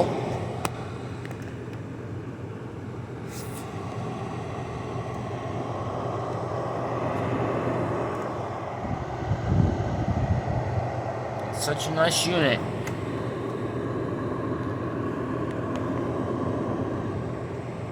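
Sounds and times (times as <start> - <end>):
air conditioner fan humming: 0.0 - 17.9.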